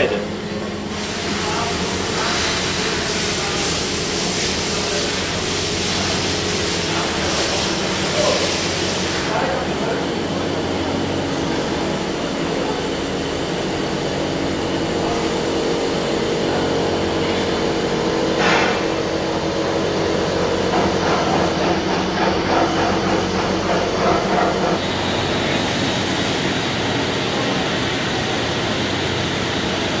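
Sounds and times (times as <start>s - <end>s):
machining centre humming: 0.0s - 30.0s.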